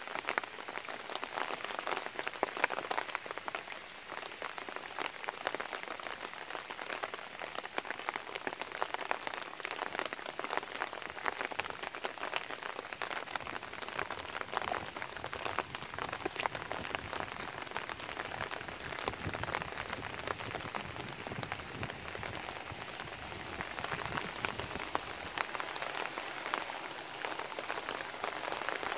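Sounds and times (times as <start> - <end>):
gentle rain falling: 0.0 - 28.9.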